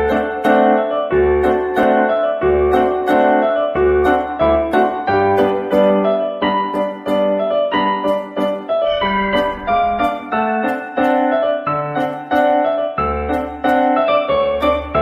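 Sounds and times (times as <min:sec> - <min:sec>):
piano notes in quick run: 0:00.0 - 0:15.0.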